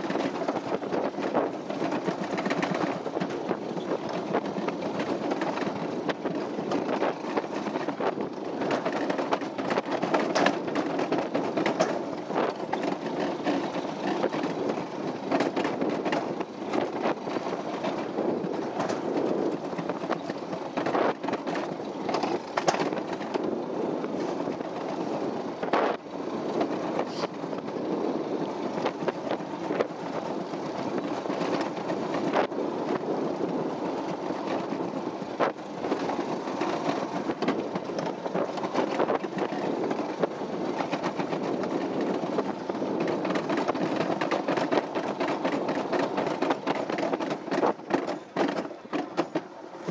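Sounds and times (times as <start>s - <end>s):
sled rumbling rattle on track: 0.0s - 49.9s.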